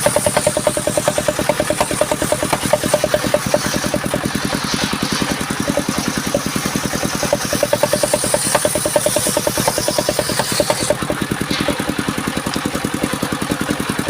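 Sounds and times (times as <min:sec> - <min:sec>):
sawmill engine chugging: 0:00.0 - 0:14.0.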